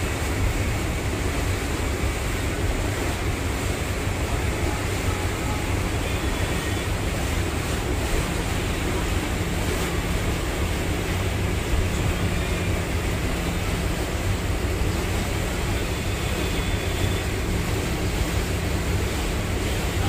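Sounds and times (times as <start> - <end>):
boat engine droning: 0.0 - 20.0
wind and water rushing past hull: 0.0 - 20.0.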